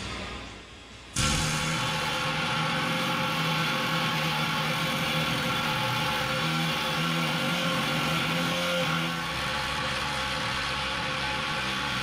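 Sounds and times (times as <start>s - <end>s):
power hammer hammering sheet metal: 1.2s - 12.0s.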